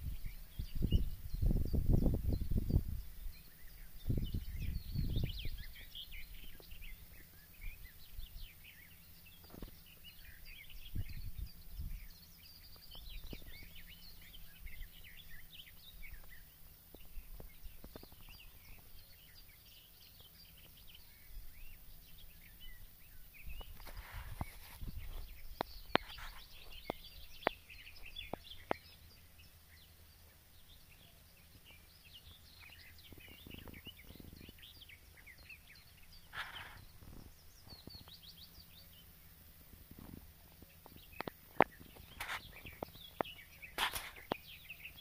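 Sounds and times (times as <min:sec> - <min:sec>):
low rumble on microphone: 0:00.0 - 0:45.0
small birds chirping: 0:00.0 - 0:45.0.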